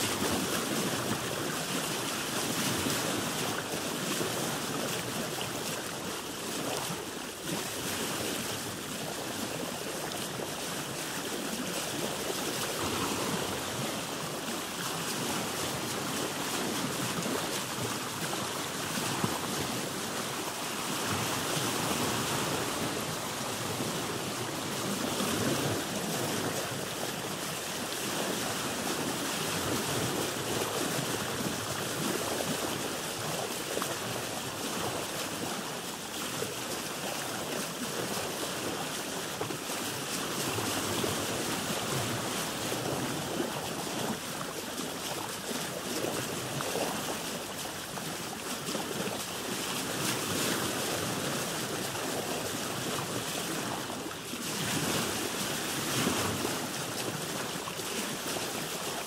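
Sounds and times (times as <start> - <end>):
sea water rushing around a boat: 0.0 - 59.0.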